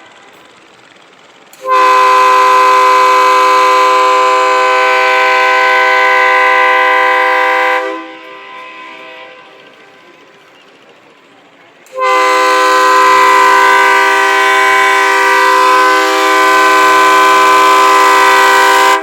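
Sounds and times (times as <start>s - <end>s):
boat horn blast: 1.6s - 9.7s, 11.9s - 19.0s.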